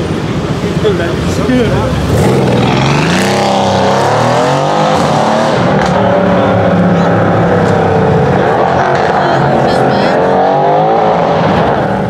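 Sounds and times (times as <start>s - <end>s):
car engine and exhaust accelerating: 0.0s - 12.0s.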